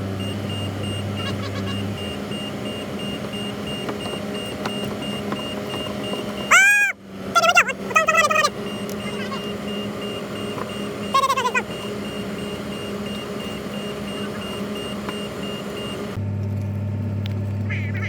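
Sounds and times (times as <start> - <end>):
mechanical hum with high whine: 0.0 - 18.0.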